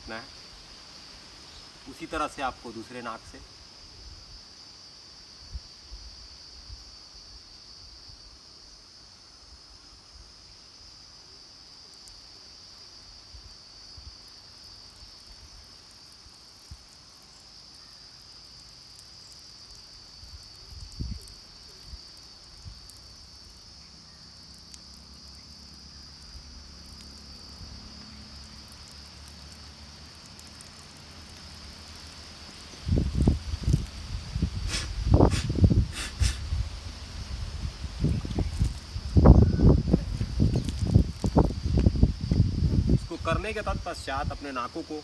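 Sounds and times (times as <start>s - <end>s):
insects chorus: 0.0s - 45.0s.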